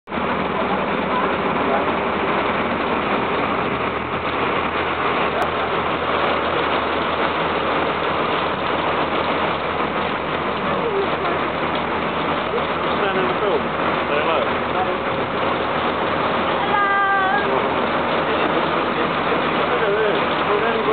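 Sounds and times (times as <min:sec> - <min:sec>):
boat engine running: 0:00.0 - 0:20.9
heavy rain: 0:00.0 - 0:20.9.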